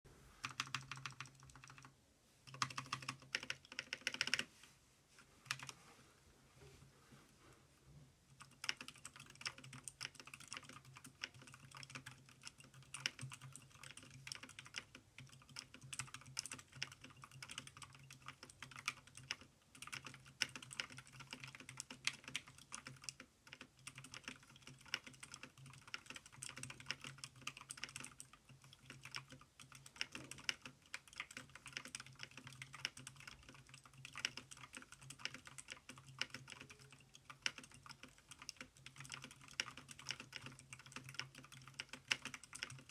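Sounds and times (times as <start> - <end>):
fast typing on mechanical keyboard: 0.4 - 1.9, 2.5 - 4.5, 5.5 - 5.7, 8.3 - 42.9.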